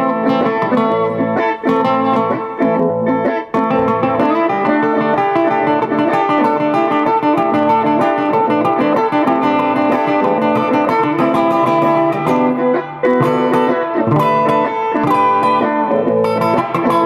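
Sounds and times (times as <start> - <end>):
blues guitar playing: 0.0 - 17.0.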